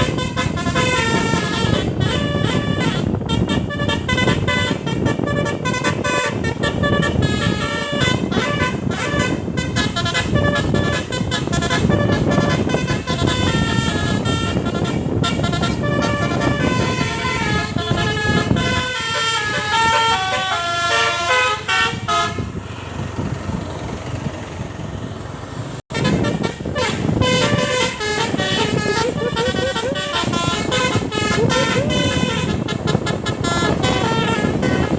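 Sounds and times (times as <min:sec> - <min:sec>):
musical air horn melody: 0:00.0 - 0:22.6, 0:25.9 - 0:34.9.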